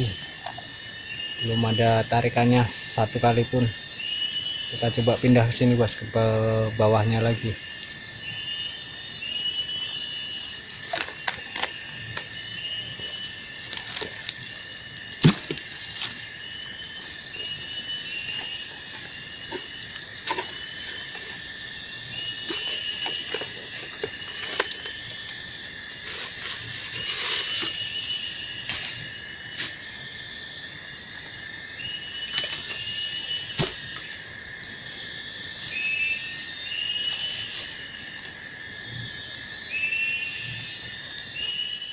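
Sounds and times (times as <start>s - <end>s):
insects calling: 0.0s - 41.9s.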